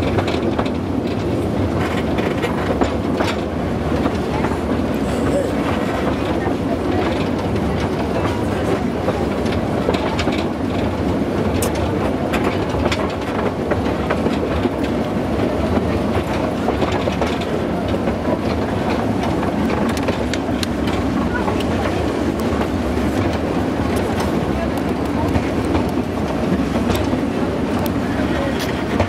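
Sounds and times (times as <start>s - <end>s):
train wheels rumbling on rails: 0.0s - 29.0s
wheels clicking and clacking: 0.0s - 29.0s.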